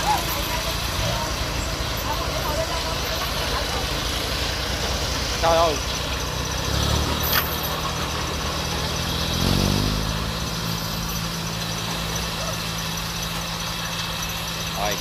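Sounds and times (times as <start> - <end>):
diesel engine idling and revving: 0.0 - 15.0.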